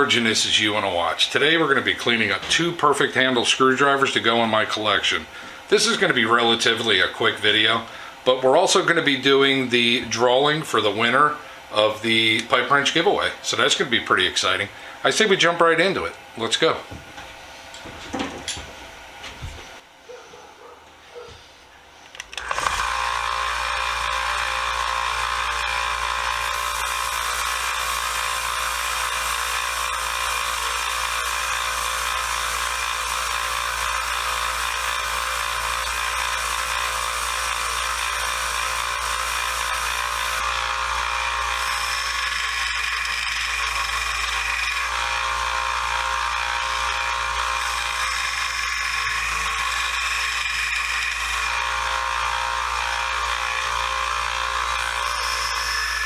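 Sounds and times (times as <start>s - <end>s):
electric power tool whirring: 0.0s - 20.0s, 21.4s - 56.0s.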